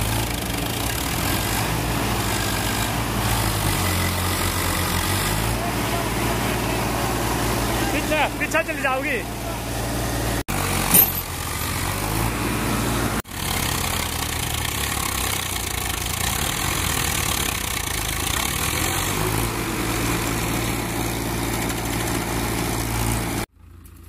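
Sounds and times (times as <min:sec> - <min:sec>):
tractor engines under load: 0:00.0 - 0:24.0.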